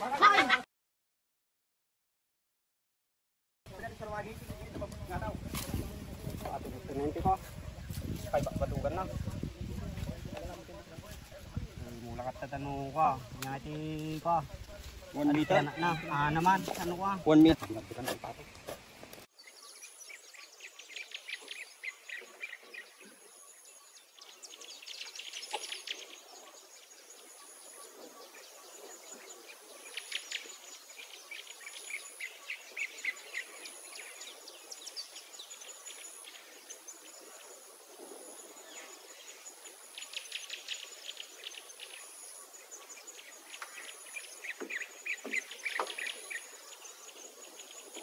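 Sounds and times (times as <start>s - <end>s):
birds chattering: 3.7s - 48.0s
insects: 3.7s - 48.0s.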